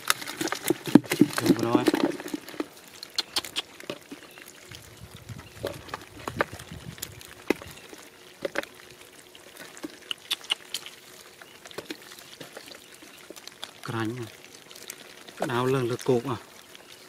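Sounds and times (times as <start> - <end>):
fish flopping on wet mud: 0.0 - 17.0.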